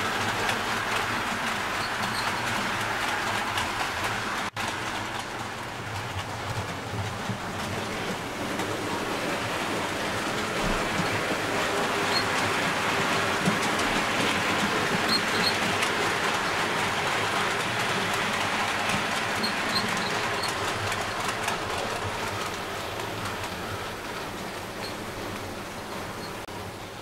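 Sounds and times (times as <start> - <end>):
model trains rolling rumble: 0.0 - 27.0.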